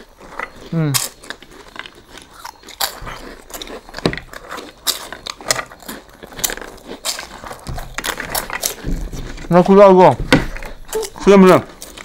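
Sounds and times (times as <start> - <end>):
people crunching dry snack: 0.0 - 12.0.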